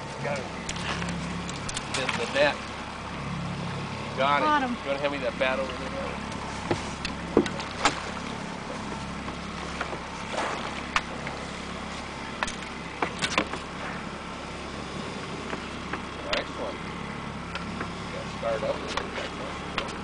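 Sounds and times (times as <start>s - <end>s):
boat motor humming: 0.0s - 20.0s.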